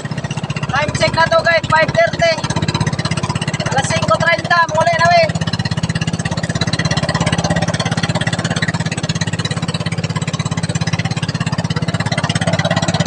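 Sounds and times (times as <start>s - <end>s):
motorboat engine chugging: 0.0s - 13.0s.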